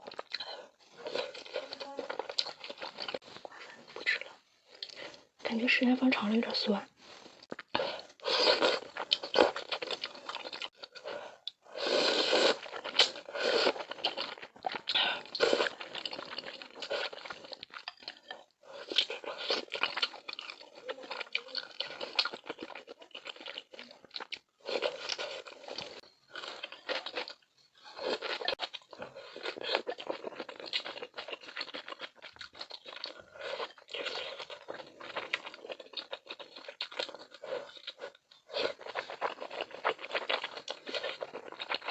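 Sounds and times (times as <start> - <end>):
close chewing sounds: 0.0 - 41.9.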